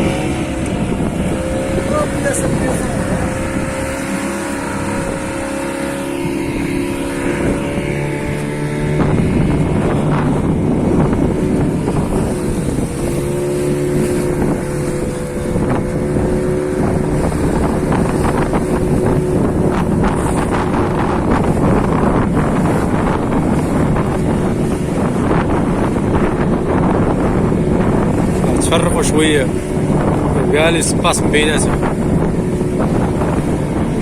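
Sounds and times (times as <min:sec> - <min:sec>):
boat motor running: 0:00.0 - 0:34.0
wind buffeting microphone: 0:00.0 - 0:34.0.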